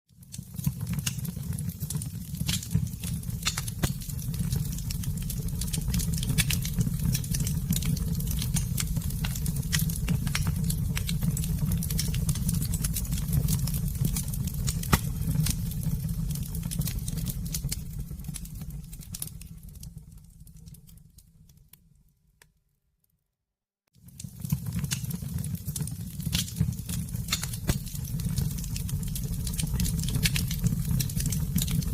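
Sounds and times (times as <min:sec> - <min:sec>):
campfire crackling and popping: 0:00.2 - 0:21.7, 0:24.0 - 0:31.9.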